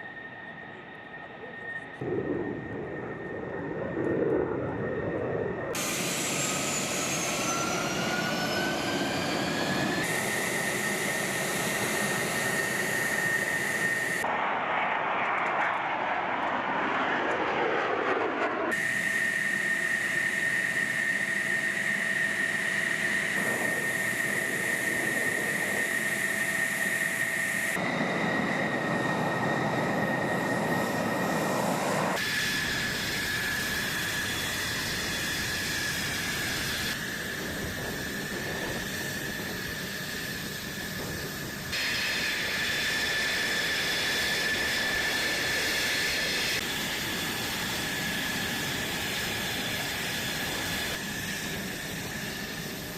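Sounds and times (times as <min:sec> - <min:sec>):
jet engine high whine: 0:00.0 - 0:52.9.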